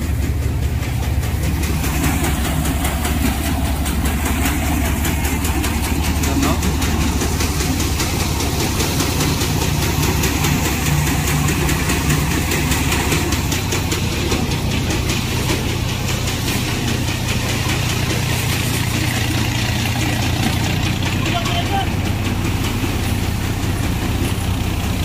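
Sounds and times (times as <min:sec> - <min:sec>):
engine drone: 0:00.0 - 0:25.0
thresher rushing and rattling: 0:00.0 - 0:25.0.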